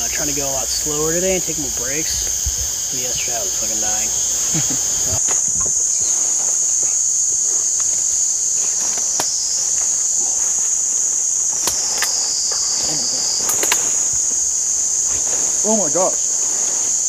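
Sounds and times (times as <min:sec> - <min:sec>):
insect chorus drone: 0:00.0 - 0:17.0
lower insect drone: 0:00.0 - 0:17.0.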